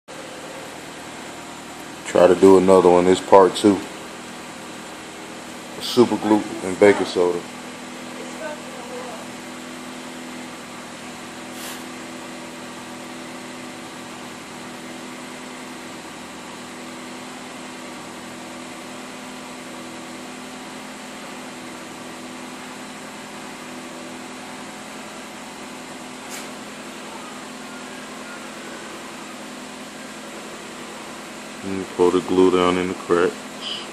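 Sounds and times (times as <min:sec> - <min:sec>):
motor humming: 0:00.1 - 0:33.9.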